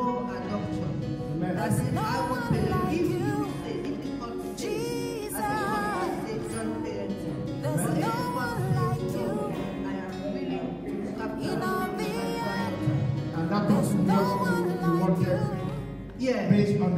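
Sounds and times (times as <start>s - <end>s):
instrumental accompaniment: 0.0s - 16.9s
voices singing: 1.4s - 16.2s.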